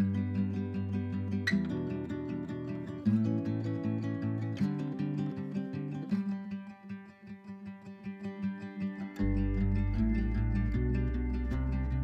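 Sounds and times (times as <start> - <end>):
acoustic guitar picked chords: 0.0 - 12.0.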